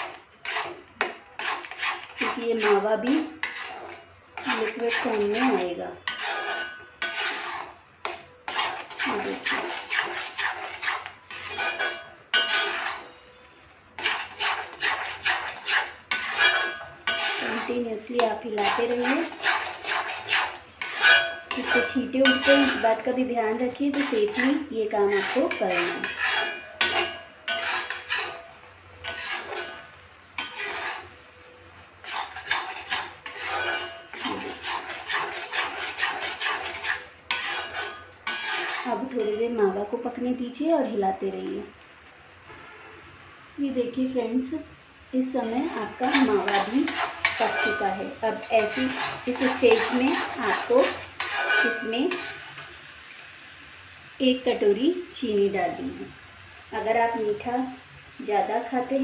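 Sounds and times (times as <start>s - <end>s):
steel spoon scraping a pan: 0.0s - 40.3s, 43.8s - 53.4s.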